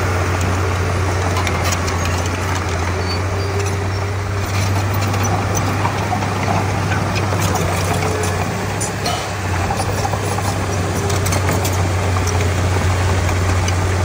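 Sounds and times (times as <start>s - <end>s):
bulldozer diesel engine humming: 0.0s - 14.0s.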